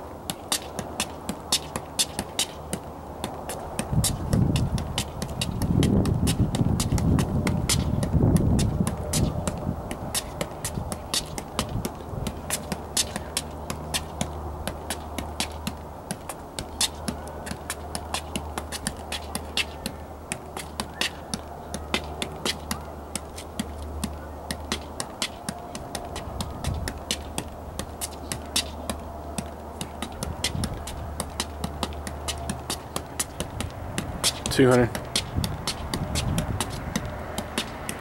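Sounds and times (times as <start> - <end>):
ball taps from juggling: 0.2 - 38.0.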